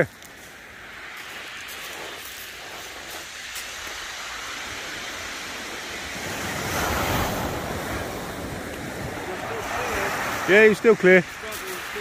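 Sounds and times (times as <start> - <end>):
waves on shingle beach: 0.0 - 12.0
wind on microphone: 0.0 - 12.0.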